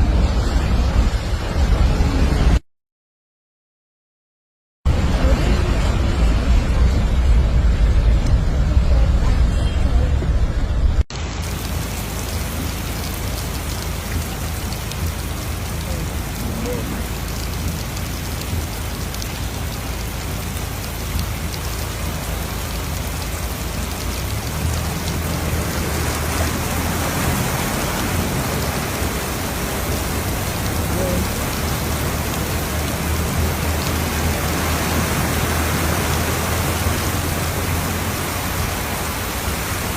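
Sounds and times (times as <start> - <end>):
heavy rain: 0.0 - 2.6, 4.9 - 39.9.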